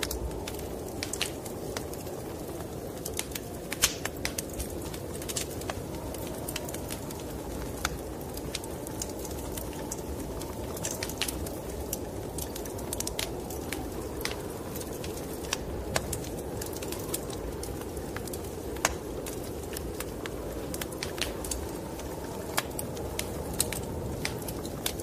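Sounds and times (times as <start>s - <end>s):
snowstorm wind rumble: 0.0s - 25.0s
wood fire crackling and popping: 0.0s - 25.0s.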